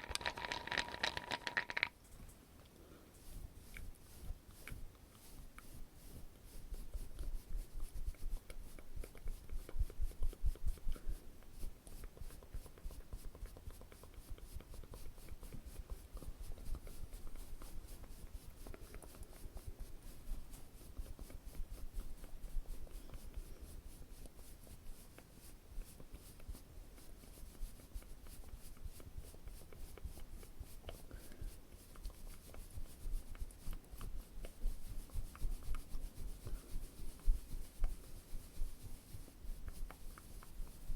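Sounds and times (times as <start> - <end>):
scratchy rubbing and brushing: 0.0 - 40.9.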